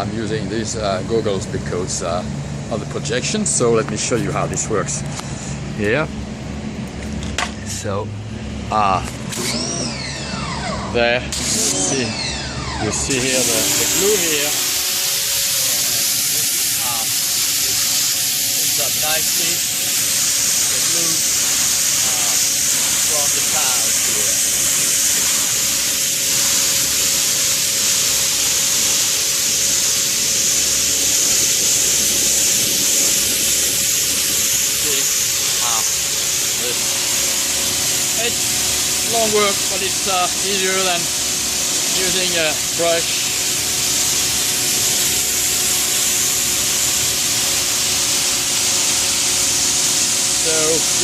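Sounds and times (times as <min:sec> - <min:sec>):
pressure washer spraying: 0:09.2 - 0:10.6, 0:11.3 - 0:51.0.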